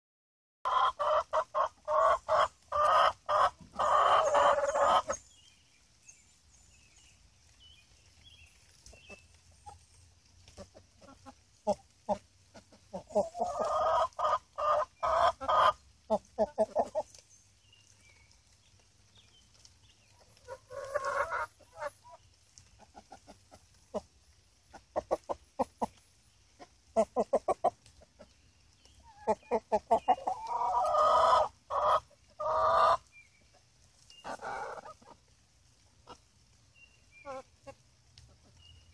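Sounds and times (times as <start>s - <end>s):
hens clucking: 0.6s - 5.3s, 8.6s - 18.0s, 19.4s - 38.7s.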